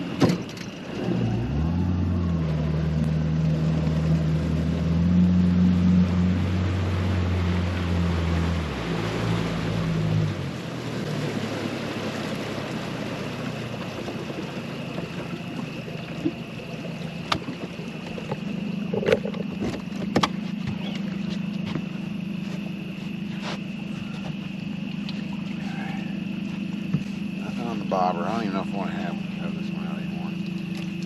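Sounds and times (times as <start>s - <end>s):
boat motor running: 0.0s - 31.0s
hiss of water and wind: 0.0s - 31.0s.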